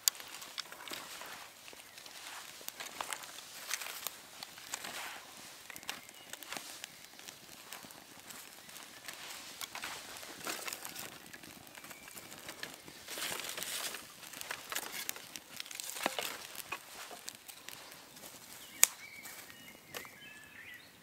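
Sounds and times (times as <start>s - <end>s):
fire hissing: 0.0s - 19.5s
twig fire crackling and popping: 0.0s - 21.0s.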